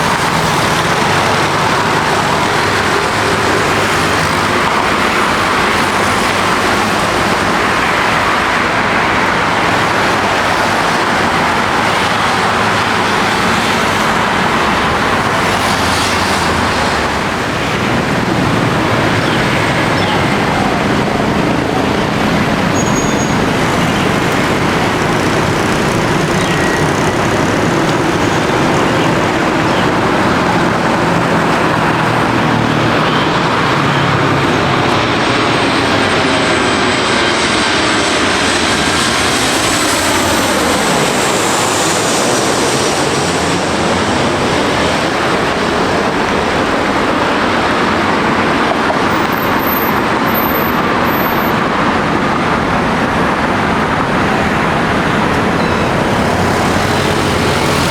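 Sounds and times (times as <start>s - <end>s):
jet engines passing: 0.0s - 57.9s.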